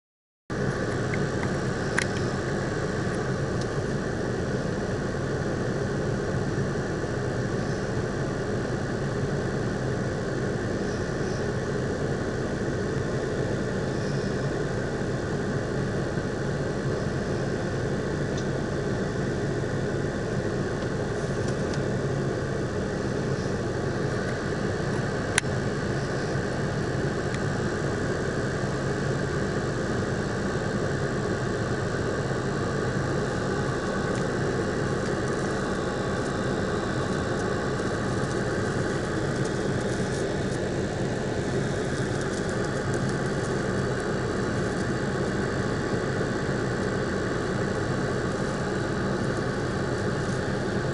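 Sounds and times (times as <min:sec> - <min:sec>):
engine running: 0:00.5 - 0:50.9.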